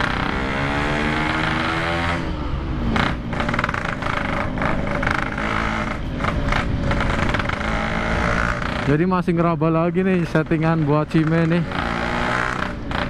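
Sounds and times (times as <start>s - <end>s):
motorcycle two-stroke engine revving: 0.0s - 13.0s
wind and road noise: 0.0s - 13.0s.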